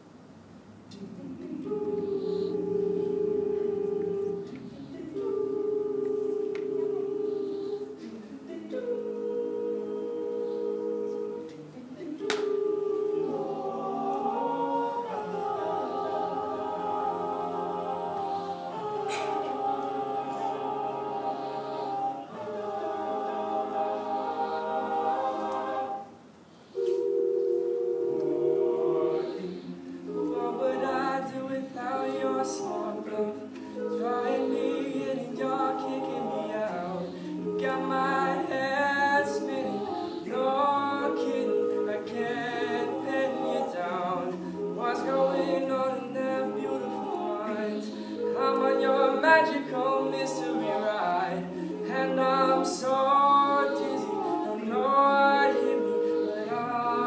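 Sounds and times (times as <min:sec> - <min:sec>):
male a cappella singing: 0:01.0 - 0:26.1, 0:28.0 - 0:57.0.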